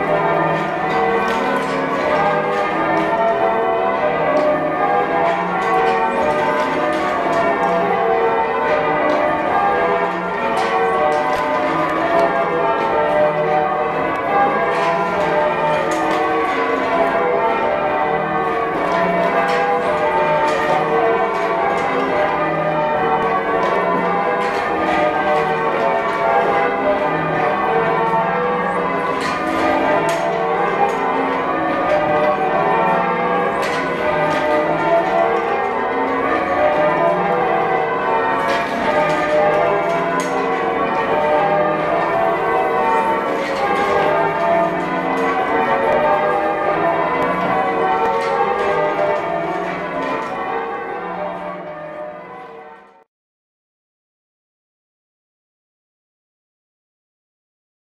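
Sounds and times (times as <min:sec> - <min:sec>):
church bells ringing: 0:00.0 - 0:53.1.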